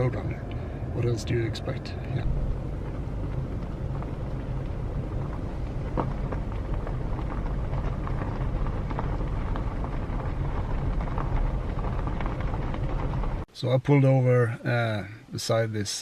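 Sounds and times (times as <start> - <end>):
car engine and tyres rumbling: 0.0 - 15.6.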